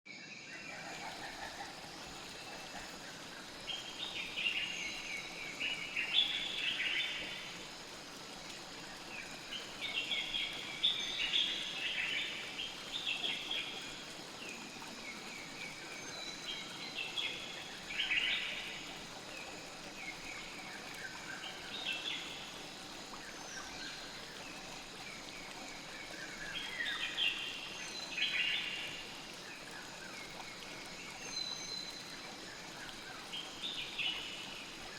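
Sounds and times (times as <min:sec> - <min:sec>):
river water flowing: 0:00.5 - 0:34.9.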